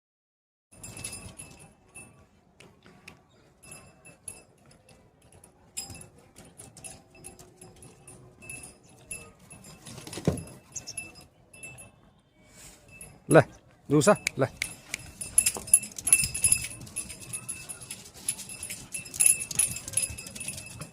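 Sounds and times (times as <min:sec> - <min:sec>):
light metallic jangling: 0:00.7 - 0:02.2, 0:02.9 - 0:12.1, 0:12.8 - 0:20.9.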